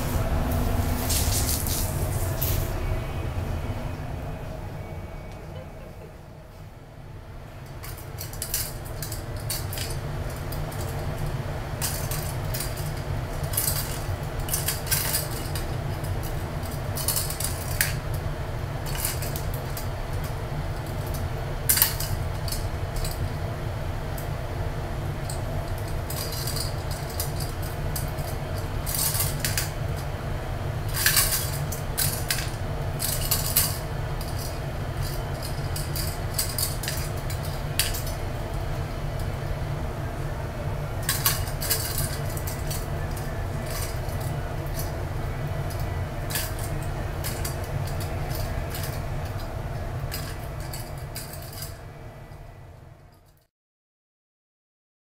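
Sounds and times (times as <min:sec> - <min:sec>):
steady low hum: 0:00.0 - 0:53.5.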